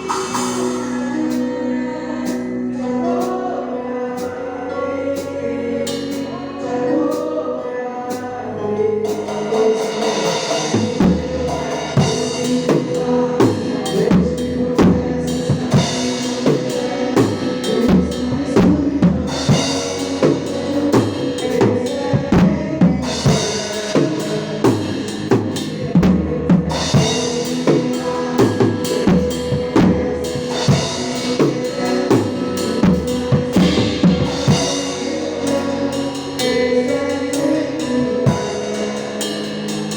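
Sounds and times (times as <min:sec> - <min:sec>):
drum kit beat: 0:00.0 - 0:01.5, 0:09.1 - 0:39.9
held keyboard chords: 0:00.0 - 0:39.9.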